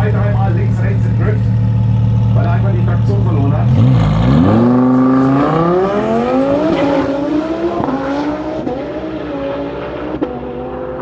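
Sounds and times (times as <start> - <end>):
sports car engine at full throttle: 0.0 - 11.0.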